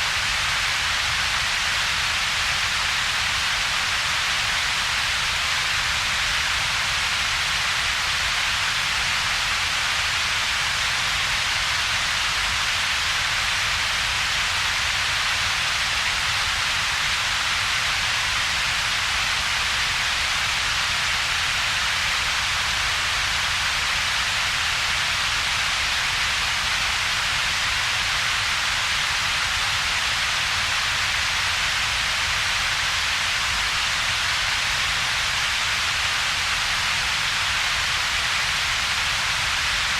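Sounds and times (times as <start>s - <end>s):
synthetic steady noise hiss: 0.0s - 39.9s.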